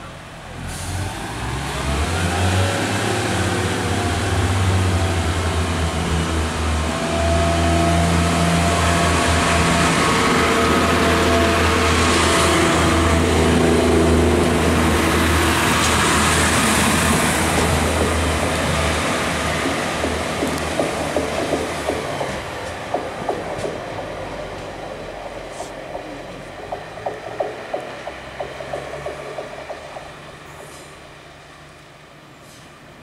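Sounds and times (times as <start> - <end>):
diesel train engines revving: 0.0 - 33.0.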